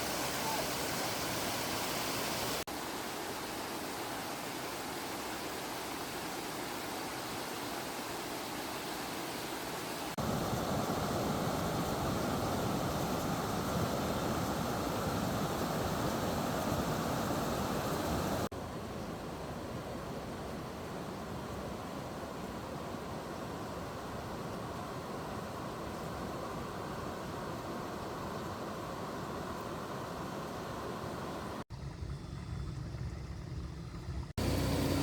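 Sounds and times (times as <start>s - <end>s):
stream water rushing: 0.0s - 31.7s, 34.4s - 35.0s.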